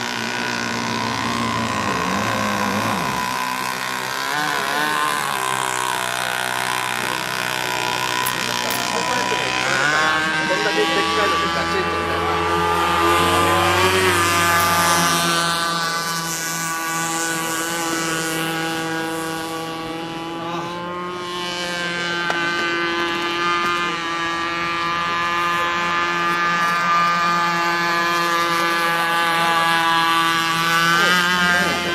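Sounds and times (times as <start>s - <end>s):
electric boat motor whine: 0.0s - 31.9s.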